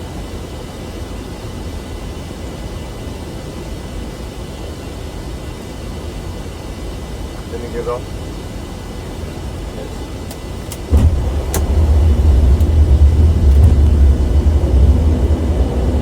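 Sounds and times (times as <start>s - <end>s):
airliner flight deck rumble: 0.0s - 16.0s.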